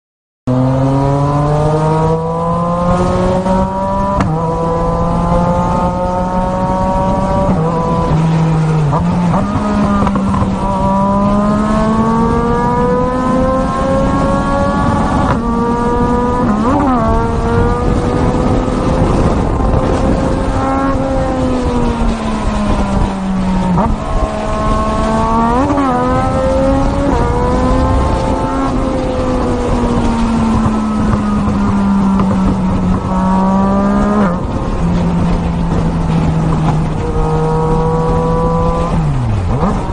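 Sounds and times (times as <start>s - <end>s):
racing motorcycle engine revving: 0.5s - 39.9s.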